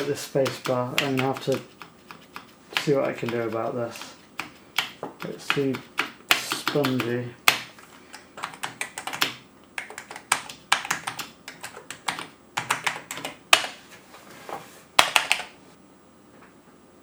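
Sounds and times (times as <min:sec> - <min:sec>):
keyboard keys clicking: 0:00.0 - 0:13.8, 0:15.0 - 0:15.6.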